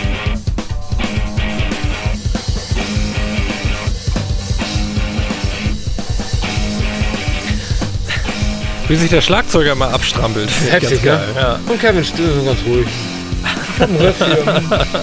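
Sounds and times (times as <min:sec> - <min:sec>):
noise rock band playing: 0:00.0 - 0:15.0.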